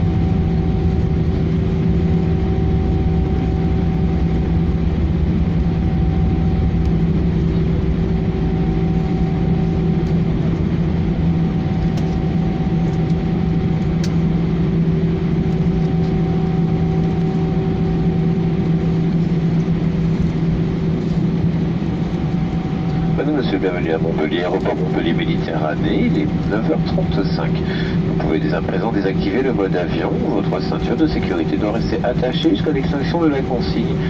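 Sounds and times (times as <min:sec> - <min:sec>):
airplane cabin engine drone: 0:00.0 - 0:34.0.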